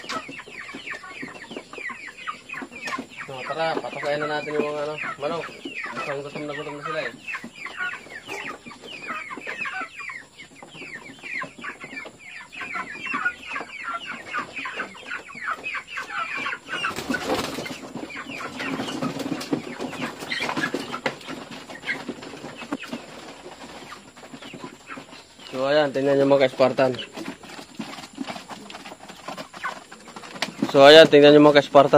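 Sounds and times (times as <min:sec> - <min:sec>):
chickens chirping: 0:00.0 - 0:31.9.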